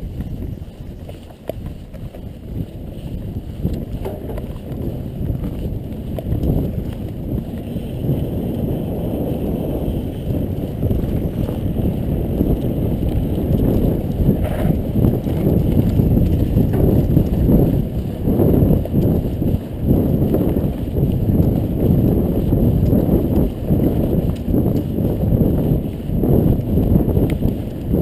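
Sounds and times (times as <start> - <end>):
mountain bike rattling over bumps: 0.0 - 28.0.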